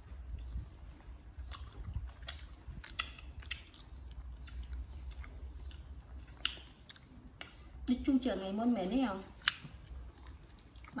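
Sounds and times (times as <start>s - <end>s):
crunchy chewing of fruit: 0.0s - 7.7s, 8.6s - 11.0s.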